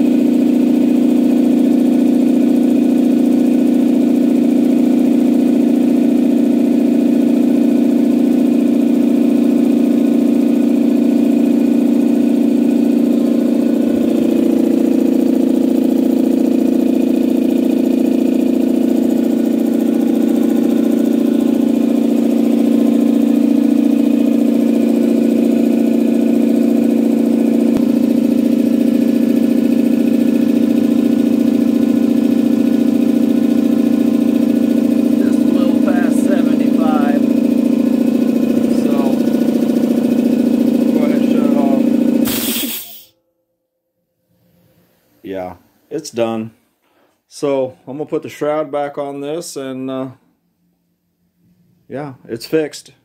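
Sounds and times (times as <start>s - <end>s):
air compressor running: 0.0s - 43.2s.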